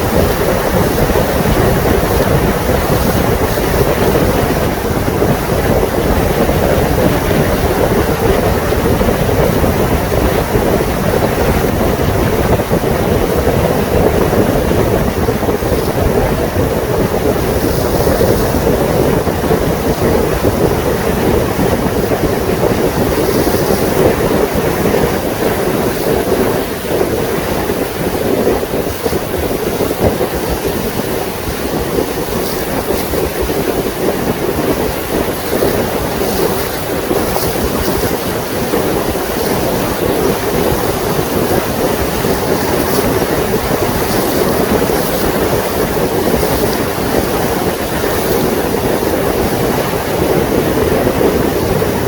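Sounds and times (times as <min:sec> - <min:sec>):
rushing water: 0:00.0 - 0:52.0
wind buffeting microphone: 0:00.0 - 0:52.0.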